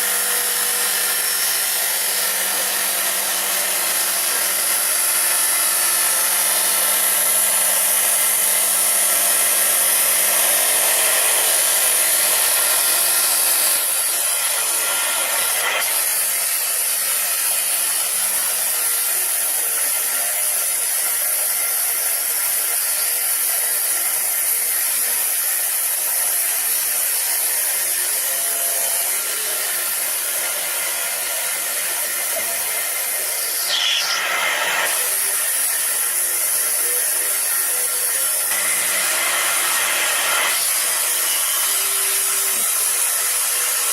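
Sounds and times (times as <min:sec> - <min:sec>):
saw blade grinding stone: 0:00.0 - 0:43.9.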